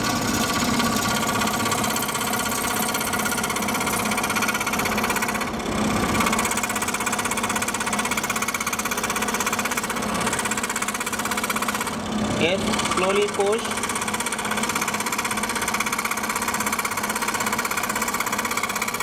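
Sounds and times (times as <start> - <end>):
scroll saw cutting: 0.0 - 19.0.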